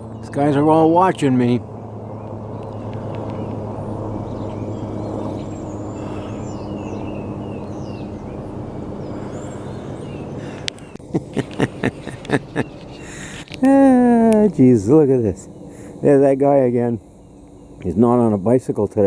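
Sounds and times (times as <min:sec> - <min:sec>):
birds chirping: 0:00.0 - 0:19.0
low engine drone: 0:00.0 - 0:19.0.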